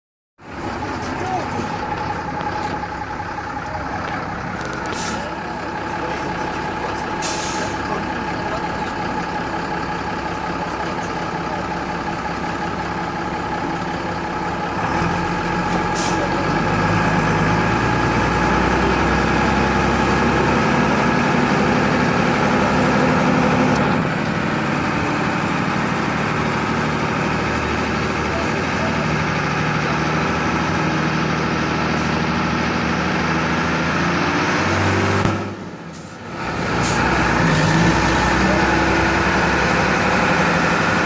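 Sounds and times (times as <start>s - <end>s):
minibus engine running: 0.4s - 41.0s.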